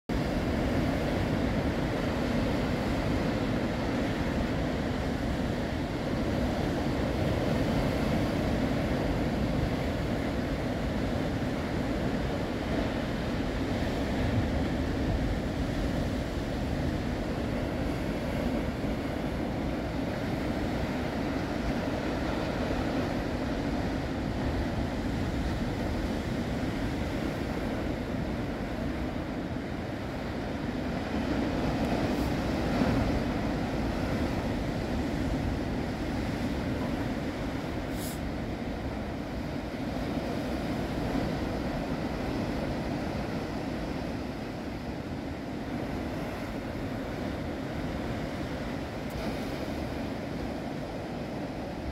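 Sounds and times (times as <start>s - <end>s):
surf breaking on rocky shore: 0.1s - 51.9s.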